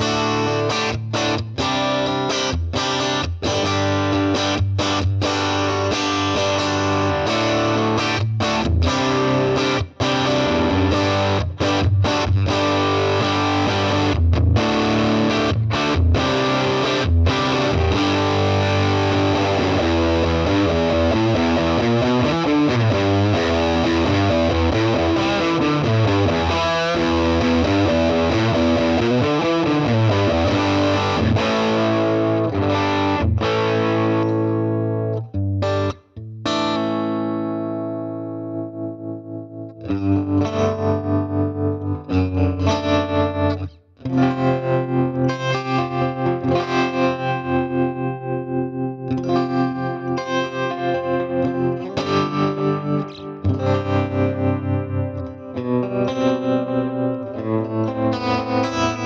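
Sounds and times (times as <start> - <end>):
distorted electric guitar: 0.0 - 59.0.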